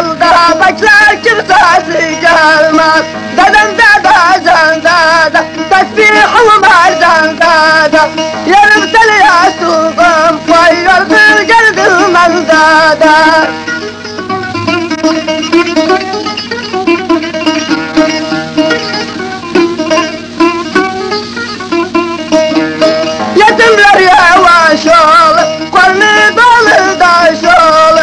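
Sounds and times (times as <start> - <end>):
ornamented sung melody: 0.0 - 28.0
plucked strings: 0.0 - 28.0
string accompaniment: 0.0 - 28.0.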